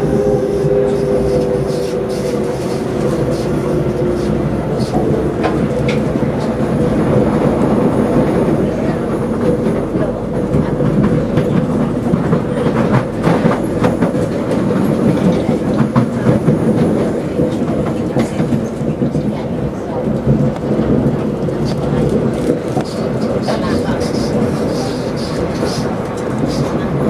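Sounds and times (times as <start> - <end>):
train hum: 0.0 - 27.0
train wheels rumbling on rail: 0.0 - 27.0.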